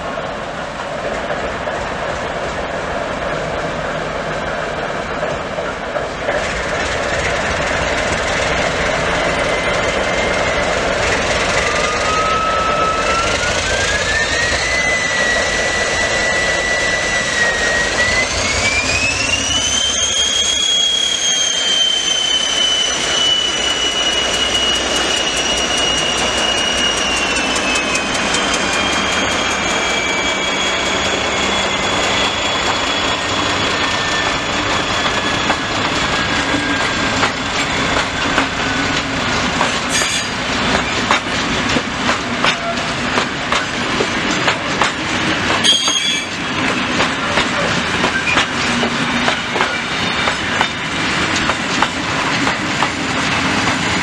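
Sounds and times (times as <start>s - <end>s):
locomotive whine: 0.0s - 54.0s.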